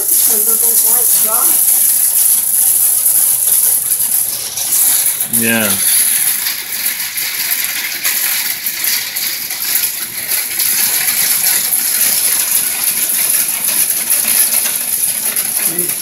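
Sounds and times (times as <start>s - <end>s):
ice pellets crackling: 0.0s - 16.0s.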